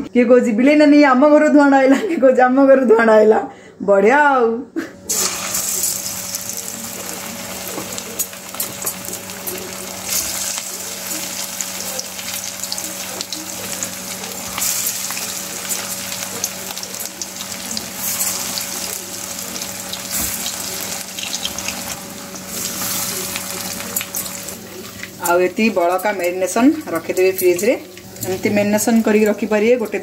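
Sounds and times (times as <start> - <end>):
chicken deep-frying in hot oil: 5.1 - 30.0.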